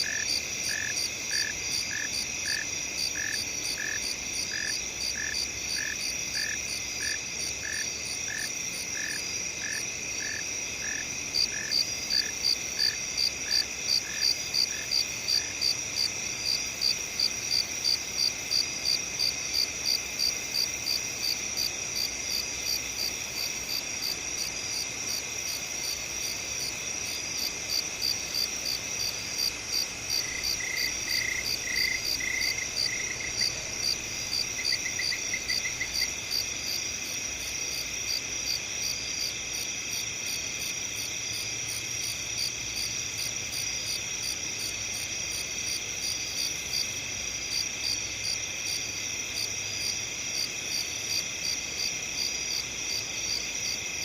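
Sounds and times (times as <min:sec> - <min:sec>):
insects trilling drone: 0:00.0 - 0:54.0
lower insect chirping: 0:00.0 - 0:54.0.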